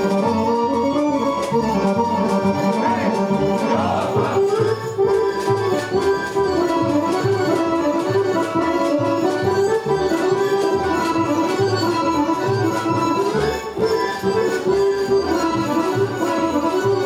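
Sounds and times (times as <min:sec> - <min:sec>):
folk orchestra playing dance music: 0:00.0 - 0:17.0.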